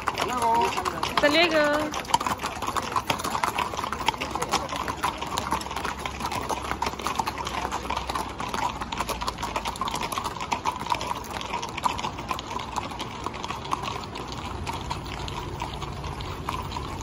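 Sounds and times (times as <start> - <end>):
horse hooves on asphalt: 0.0 - 17.0.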